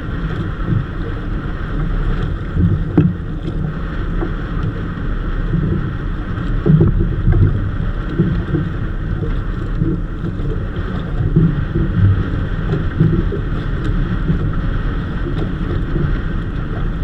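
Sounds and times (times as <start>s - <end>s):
water sloshing against boat: 0.0s - 17.0s
wind buffeting microphone: 0.0s - 17.0s.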